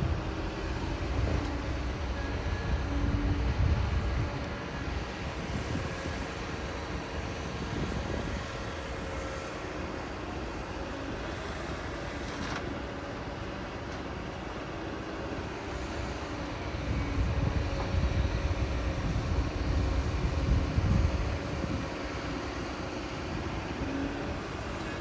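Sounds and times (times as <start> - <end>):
heavy diesel engine rumbling: 0.0 - 25.0.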